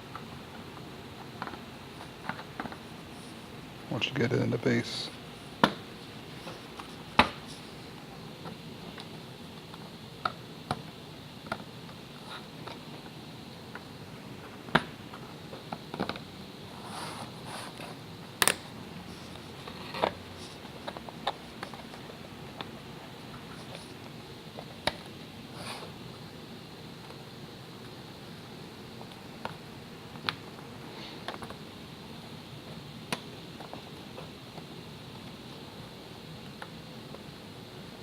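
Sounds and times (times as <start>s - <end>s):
faint steady hiss: 0.0s - 38.0s.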